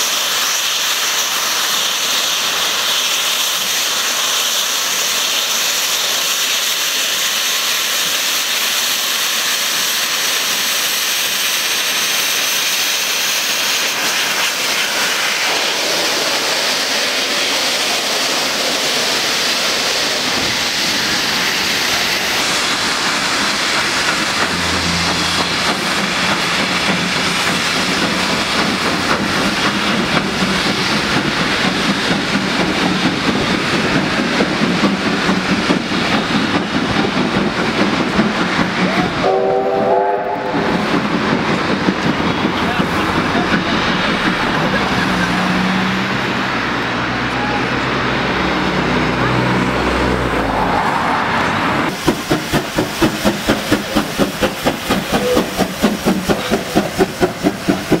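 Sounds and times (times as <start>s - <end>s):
steam hissing from locomotive: 0.0s - 58.0s
train rumbling on rails: 0.0s - 58.0s.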